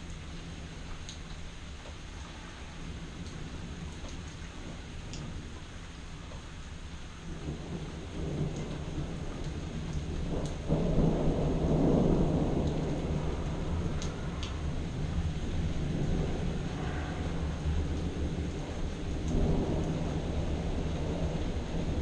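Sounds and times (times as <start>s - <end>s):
steady rain: 0.0s - 22.0s
thunder rumbling: 2.4s - 22.0s.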